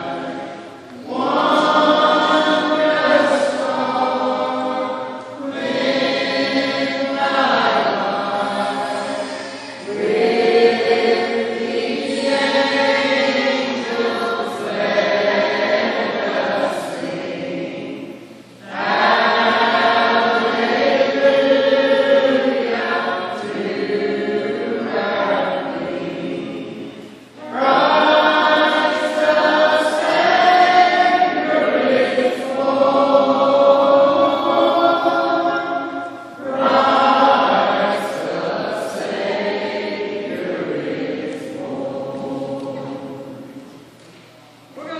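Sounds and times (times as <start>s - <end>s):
mixed choir singing: 0.0s - 44.0s.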